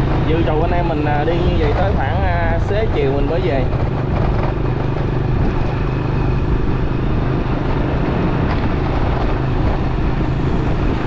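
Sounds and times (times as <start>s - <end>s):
motorbike engine running: 0.0s - 11.0s
wind and road noise: 0.0s - 11.0s.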